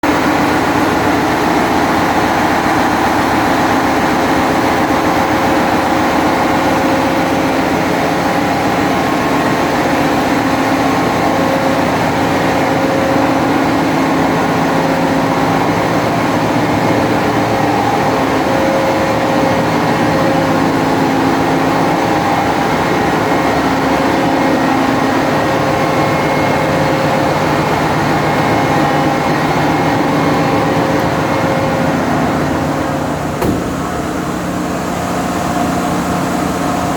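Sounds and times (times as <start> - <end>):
engine room machinery din: 0.0 - 36.9
steady hum tones: 0.1 - 36.9.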